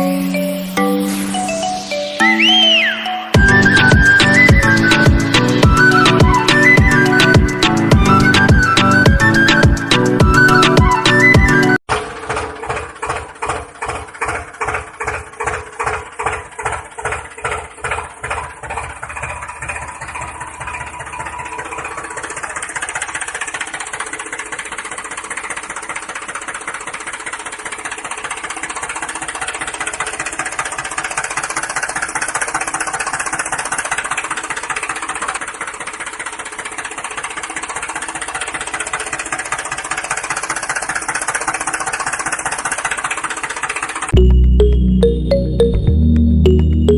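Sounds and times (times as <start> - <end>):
tractor engine chugging: 0.0 - 45.7.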